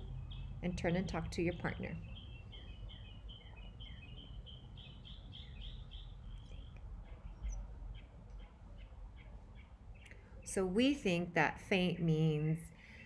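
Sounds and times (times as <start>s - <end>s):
songbird chirping: 0.0s - 11.2s.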